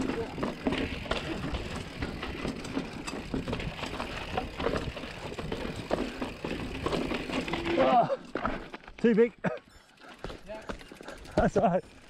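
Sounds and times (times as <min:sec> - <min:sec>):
mountain bike rattling over rock: 0:00.0 - 0:12.0.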